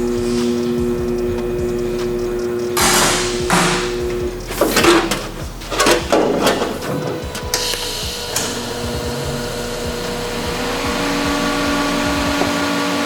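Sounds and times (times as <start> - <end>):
electric motor whining: 0.0 - 13.0
stronger motor tone: 0.0 - 13.0.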